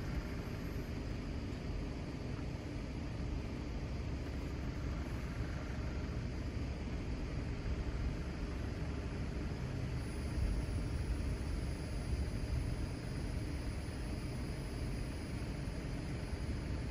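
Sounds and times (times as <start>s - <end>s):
outdoor rumble and hiss: 0.0s - 16.9s.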